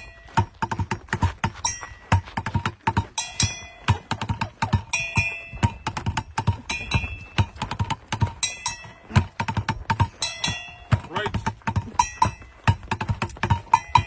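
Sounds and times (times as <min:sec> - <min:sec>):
box hand percussion: 0:00.0 - 0:14.0.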